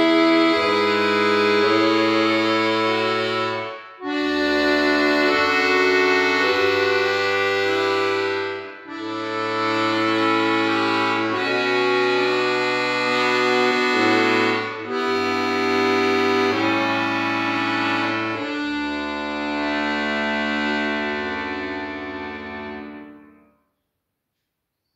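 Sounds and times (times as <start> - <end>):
accordion chords: 0.0 - 23.6.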